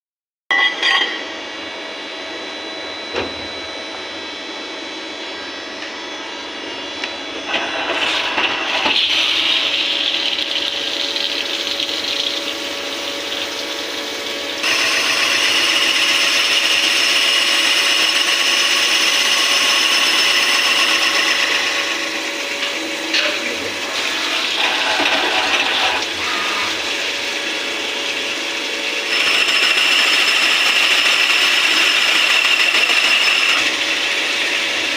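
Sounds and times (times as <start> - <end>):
cnc machine cutting metal: 0.6 - 11.2, 12.1 - 34.9.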